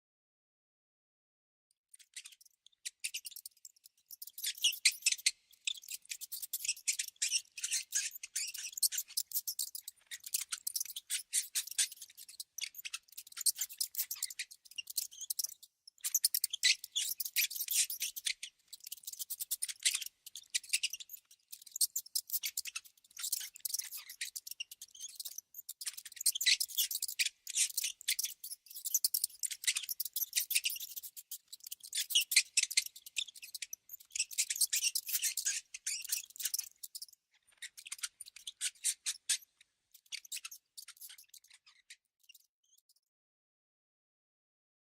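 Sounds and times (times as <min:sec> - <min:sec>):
mice squeaking: 0:02.0 - 0:43.0.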